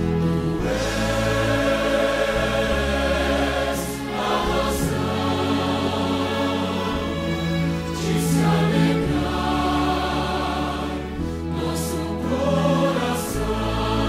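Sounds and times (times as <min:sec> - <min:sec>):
choir singing with accompaniment: 0:00.0 - 0:14.0.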